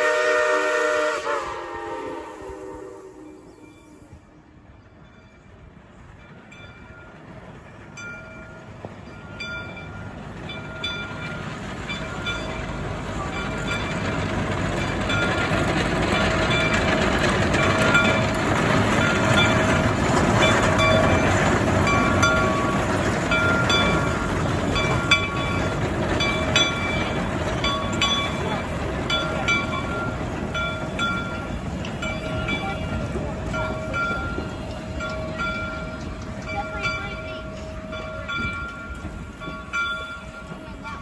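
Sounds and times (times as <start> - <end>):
steam locomotive running: 0.0 - 41.0.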